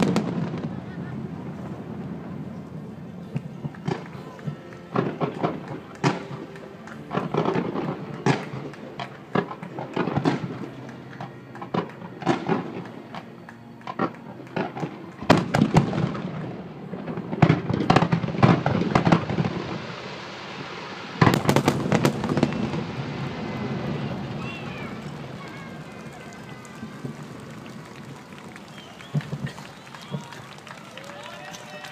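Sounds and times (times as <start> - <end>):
fireworks bangs: 0.0 - 13.2, 13.8 - 31.9.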